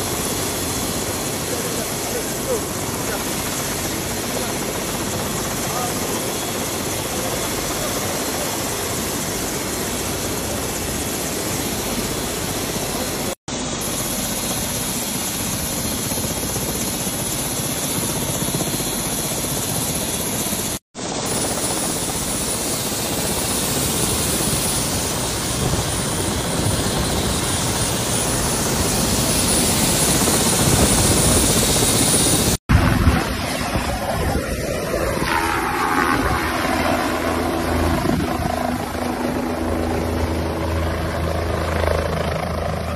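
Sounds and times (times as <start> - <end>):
helicopter rotor running: 0.0 - 42.9.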